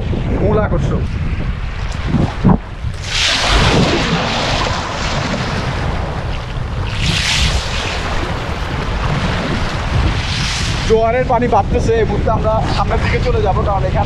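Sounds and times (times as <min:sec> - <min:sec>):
wind buffeting microphone: 0:00.0 - 0:14.0
waves rushing and splashing: 0:01.1 - 0:14.0.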